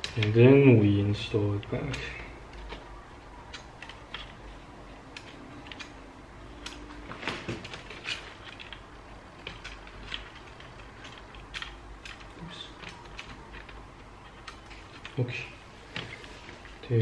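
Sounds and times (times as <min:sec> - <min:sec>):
plastic and metal parts clicking: 0:00.0 - 0:17.0.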